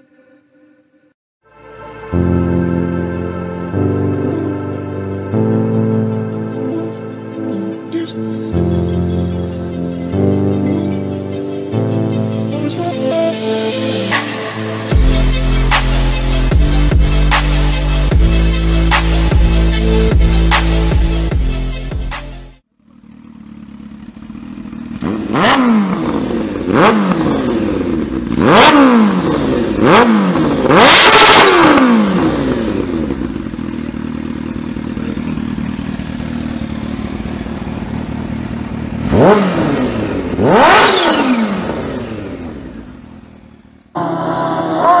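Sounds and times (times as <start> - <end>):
motorcycle engine idling and revving: 2.1 - 45.0.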